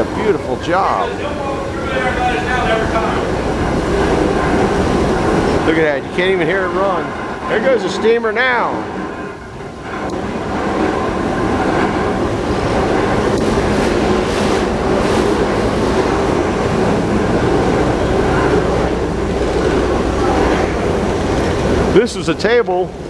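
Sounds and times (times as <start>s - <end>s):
steam traction engine running: 0.0s - 23.0s.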